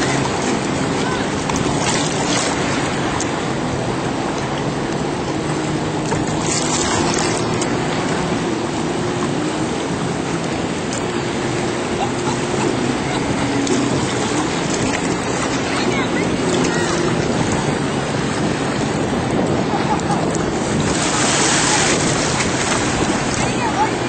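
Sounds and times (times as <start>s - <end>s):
jet ski engine running: 0.0s - 24.0s
rushing water: 0.0s - 24.0s.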